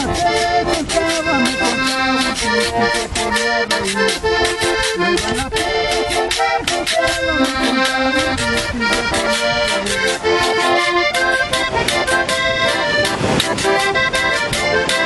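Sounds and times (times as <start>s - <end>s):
accordion playing: 0.0s - 15.0s
scraped percussion beat: 0.0s - 15.0s.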